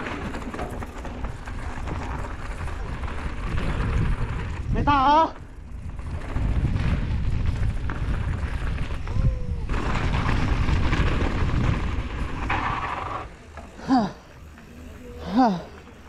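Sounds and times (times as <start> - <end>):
wind rumble on microphone: 0.0 - 13.4
bike tyres rattling over dirt: 0.0 - 16.0.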